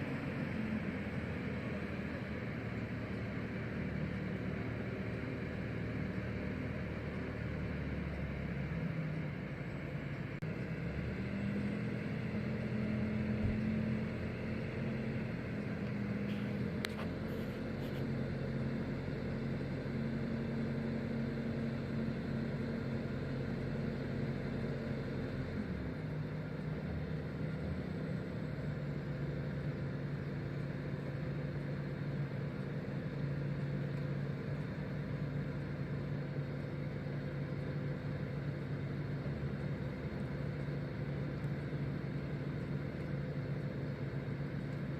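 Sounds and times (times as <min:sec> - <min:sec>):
forestry machine engine running: 0:00.0 - 0:44.9.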